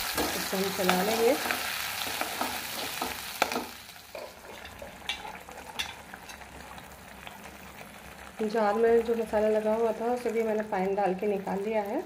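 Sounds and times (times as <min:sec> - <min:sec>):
paste sizzling in hot oil: 0:00.0 - 0:11.9.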